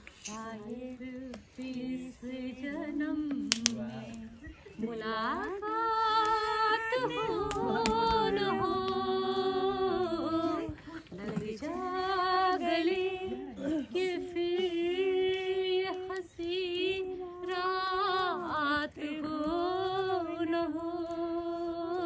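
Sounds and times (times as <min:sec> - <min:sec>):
woman singing unaccompanied: 0:00.1 - 0:22.0.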